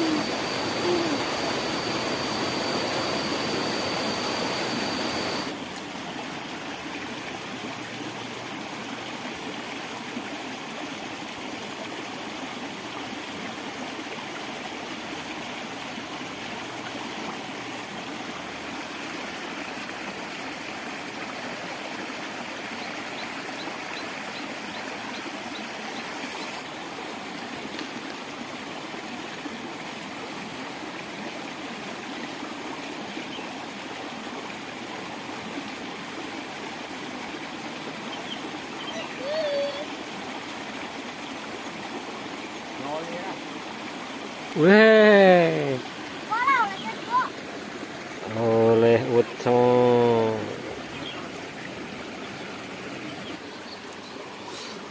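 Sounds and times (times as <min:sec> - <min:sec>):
water running in stream: 0:00.0 - 0:54.9.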